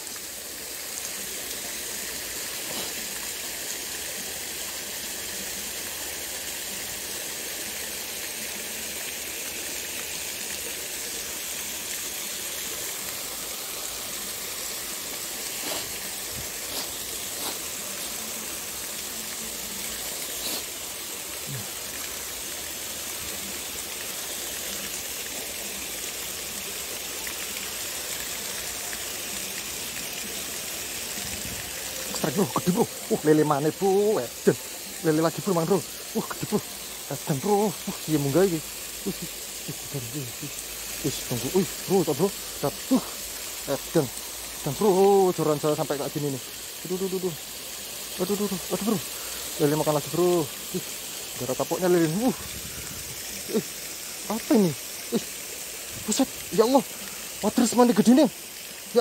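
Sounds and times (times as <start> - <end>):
water spilling over rocks: 0.0 - 59.0.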